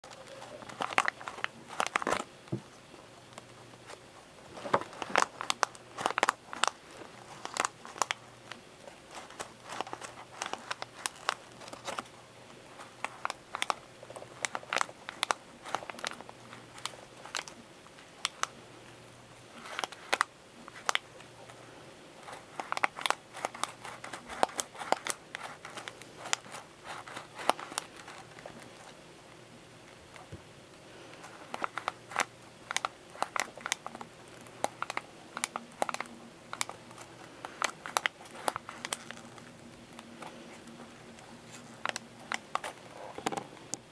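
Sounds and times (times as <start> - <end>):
folded paper crinkling: 0.0 - 2.3, 3.8 - 17.6, 22.2 - 29.0, 31.1 - 43.9.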